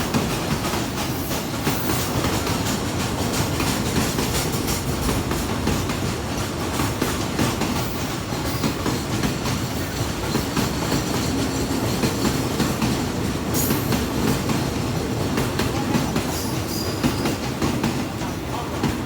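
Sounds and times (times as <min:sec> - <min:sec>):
clickety-clack of wheels: 0:00.0 - 0:19.0
freight train rolling past: 0:00.0 - 0:19.0.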